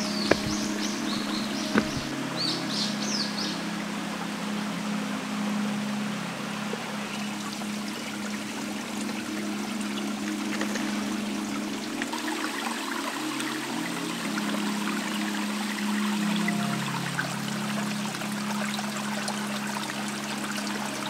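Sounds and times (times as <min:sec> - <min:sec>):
soft background music: 0:00.0 - 0:21.0
stream trickling over rocks: 0:00.0 - 0:21.0.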